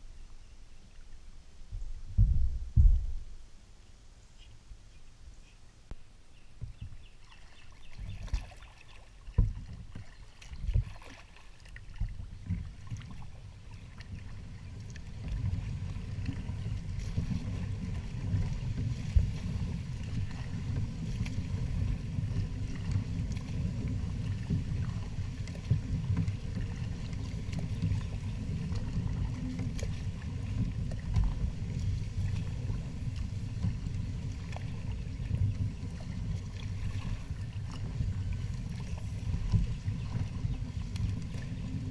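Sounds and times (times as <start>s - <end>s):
leaves rubbing along hull: 6.4s - 41.9s.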